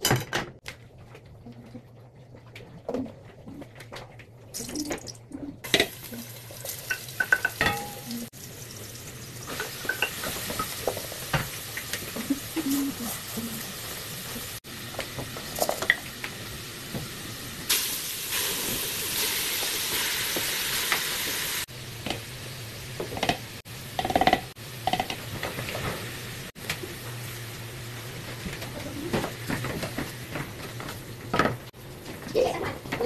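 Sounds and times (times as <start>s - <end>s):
food frying in pots: 4.5s - 33.0s.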